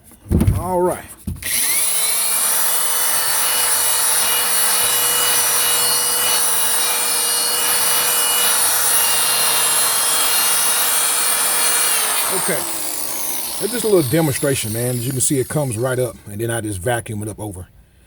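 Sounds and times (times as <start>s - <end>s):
electric drill running: 1.4s - 15.9s.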